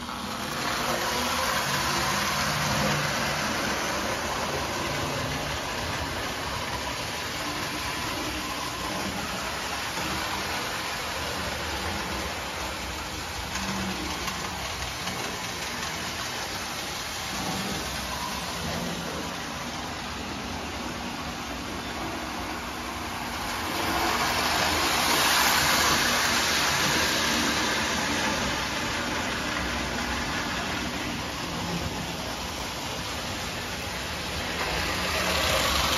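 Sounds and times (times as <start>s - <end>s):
wheels rumbling on metal rails: 0.0s - 35.9s.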